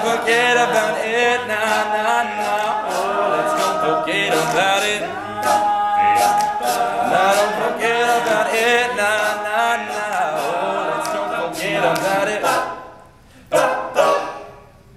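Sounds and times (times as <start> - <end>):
male group singing in harmony: 0.0 - 12.9.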